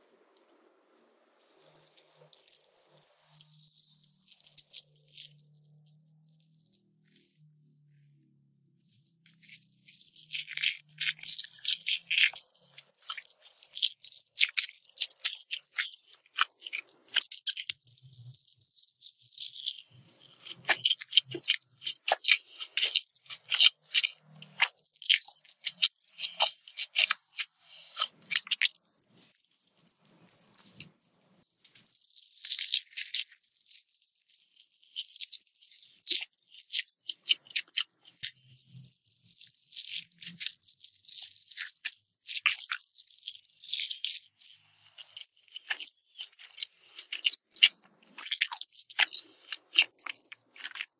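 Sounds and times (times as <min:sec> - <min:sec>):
chewing crunchy food: 0:01.3 - 0:07.6, 0:08.8 - 0:50.9.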